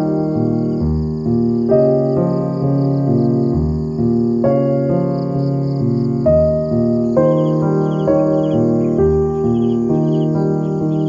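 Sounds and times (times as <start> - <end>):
calm keyboard music: 0.0 - 11.0
faint insect chirps: 0.0 - 11.0.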